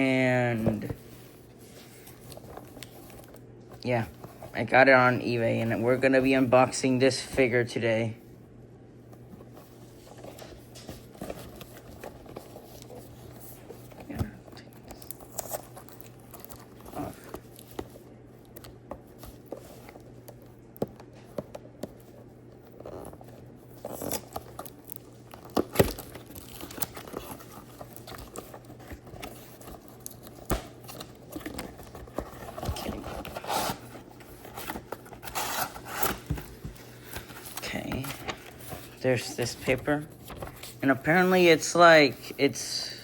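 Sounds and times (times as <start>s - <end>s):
cardboard and plastic rustling: 0.0s - 43.0s.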